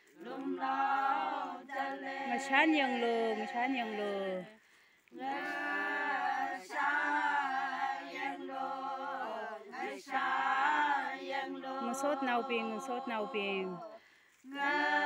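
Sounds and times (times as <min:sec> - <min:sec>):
women singing a cappella: 0:00.0 - 0:15.0.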